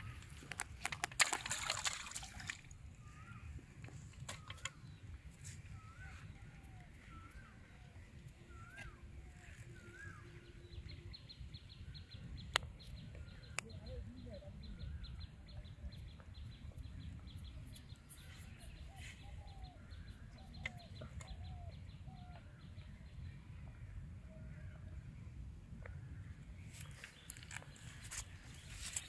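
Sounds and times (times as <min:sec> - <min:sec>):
birds chirping faintly: 0:00.0 - 0:29.0.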